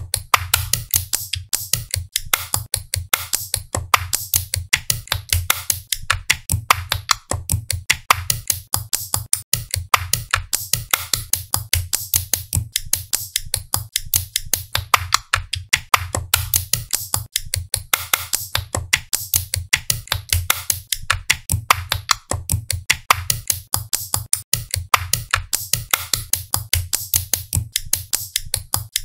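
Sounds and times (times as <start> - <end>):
clicking percussion beat: 0.0 - 29.0.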